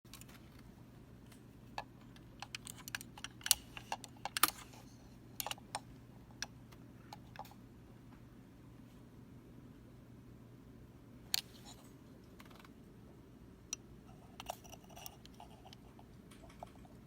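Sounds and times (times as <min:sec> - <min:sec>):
faint low hum: 0:00.1 - 0:17.0.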